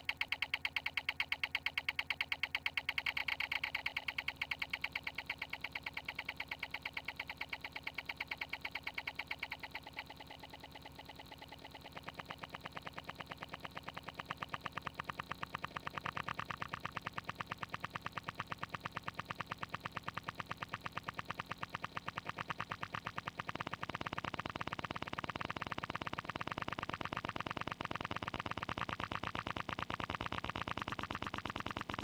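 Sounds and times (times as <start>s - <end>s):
rapid electronic buzzing pulse: 0.0s - 32.0s.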